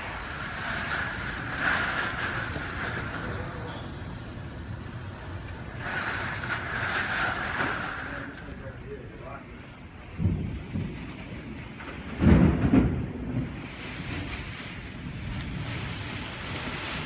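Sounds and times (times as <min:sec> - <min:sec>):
heavy wind and rain: 0:00.0 - 0:17.0.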